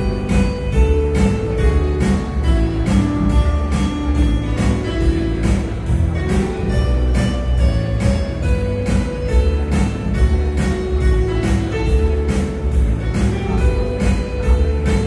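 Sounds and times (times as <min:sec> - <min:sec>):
electronic keyboard playing: 0:00.0 - 0:15.0.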